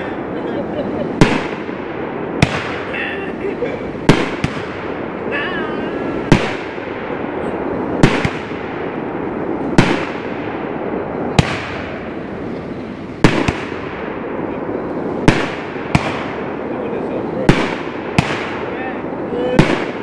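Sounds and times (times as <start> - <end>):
fireworks bangs echoing: 0.0 - 20.0.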